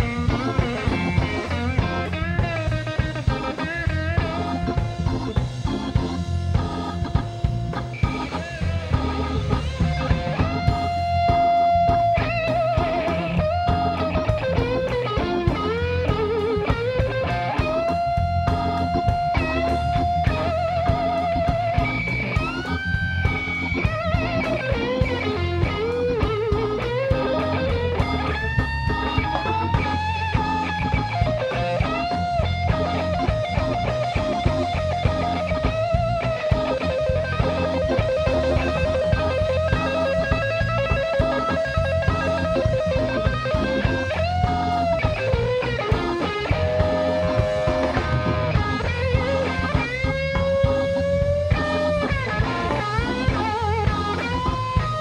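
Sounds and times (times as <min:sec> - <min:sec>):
drums: 0:00.0 - 0:55.0
electric guitar lead: 0:00.0 - 0:55.0
organ: 0:00.0 - 0:55.0.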